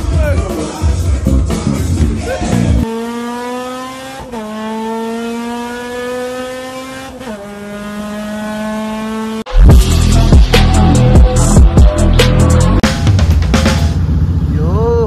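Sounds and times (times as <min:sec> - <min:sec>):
car engine accelerating: 0:01.4 - 0:15.0.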